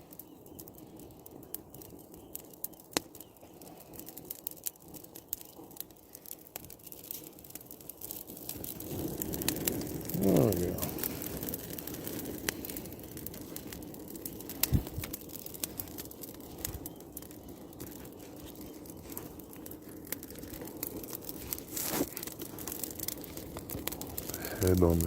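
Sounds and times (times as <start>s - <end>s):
bonfire crackling and popping: 0.0s - 25.0s.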